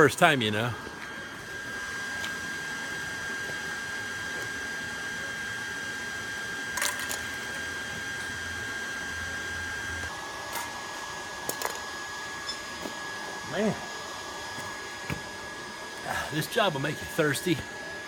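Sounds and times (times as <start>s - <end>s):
small motor whining: 0.7s - 18.0s.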